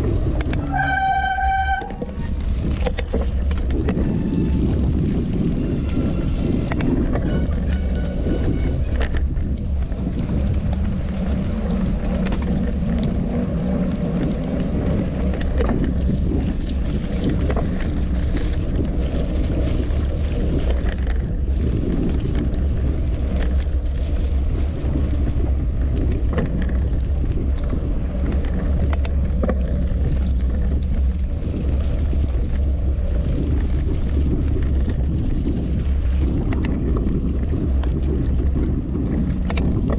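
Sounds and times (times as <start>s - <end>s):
bike clicks and rattles: 0.0s - 39.9s
wind rumbling on microphone: 0.0s - 39.9s.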